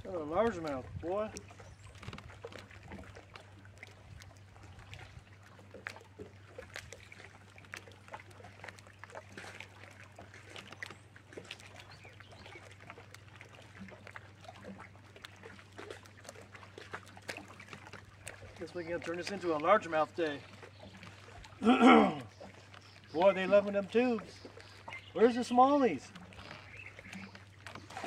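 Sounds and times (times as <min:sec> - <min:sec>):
small waves lapping against boat hull: 0:00.0 - 0:28.0.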